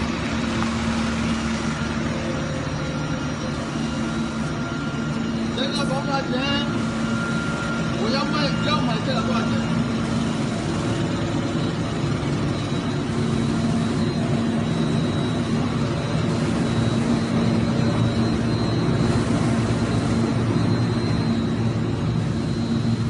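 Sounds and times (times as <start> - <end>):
faint high whine: 0.0 - 23.0
machinery humming: 0.0 - 23.0.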